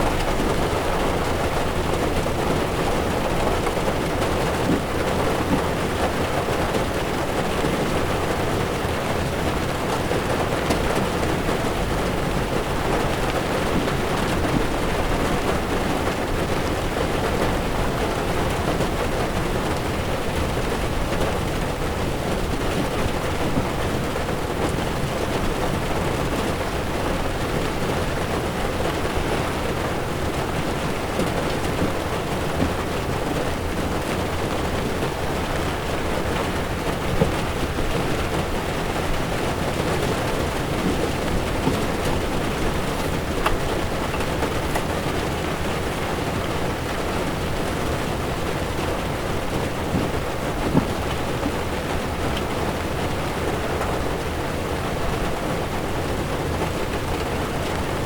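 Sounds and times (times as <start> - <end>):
heavy rain drumming on car: 0.0 - 58.0
low road rumble: 0.0 - 58.0
tyres rolling on wet road: 0.0 - 58.0.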